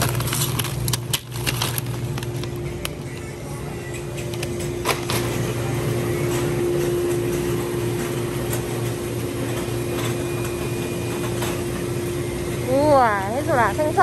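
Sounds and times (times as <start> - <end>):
refrigeration and ventilation hum: 0.0 - 14.0.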